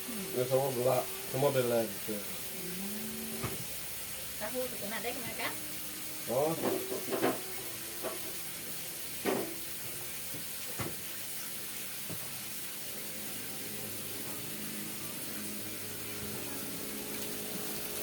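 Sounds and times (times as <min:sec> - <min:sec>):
hissing cooking noise: 0:00.0 - 0:18.0.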